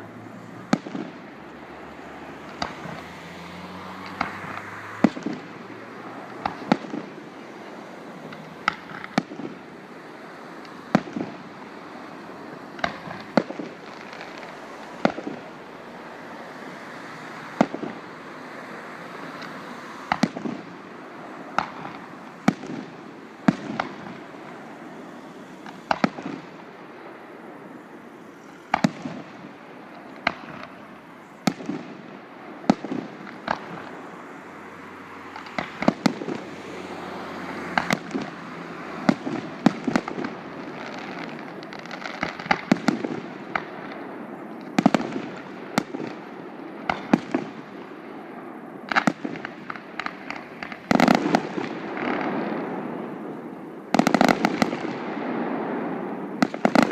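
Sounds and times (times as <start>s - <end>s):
firework bangs: 0.0s - 56.9s
firework crackling: 0.0s - 56.9s.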